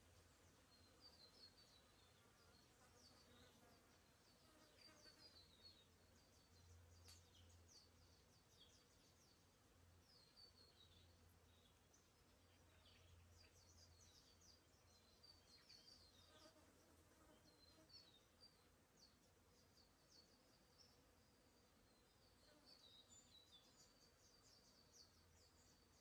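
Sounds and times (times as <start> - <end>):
low insect buzz: 0.0 - 9.4, 12.5 - 19.1, 19.8 - 26.0.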